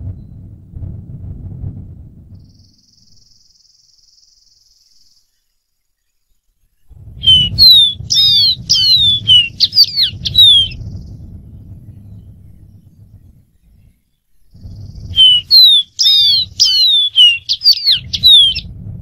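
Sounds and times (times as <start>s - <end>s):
low rumble: 0.0s - 3.5s, 6.7s - 19.0s
bird singing whistled notes: 2.4s - 11.2s, 11.9s - 18.7s.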